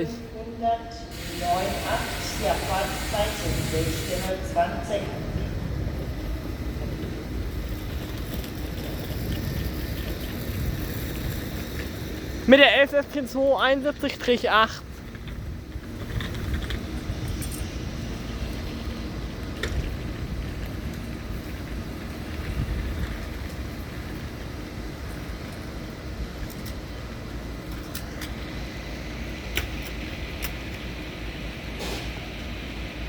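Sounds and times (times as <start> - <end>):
train rumbling through station: 0.0 - 33.0.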